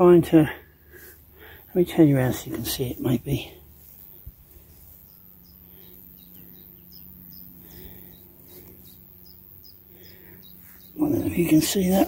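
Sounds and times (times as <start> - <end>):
low steady hum: 0.0 - 12.0
songbird chirping: 2.3 - 12.0.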